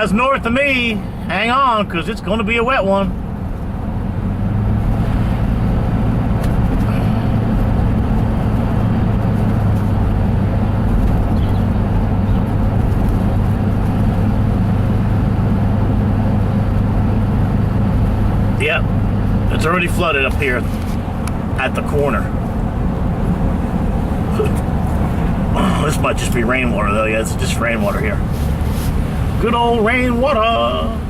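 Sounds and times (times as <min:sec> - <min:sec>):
road noise: 0:00.0 - 0:31.0
truck engine drone: 0:00.0 - 0:31.0.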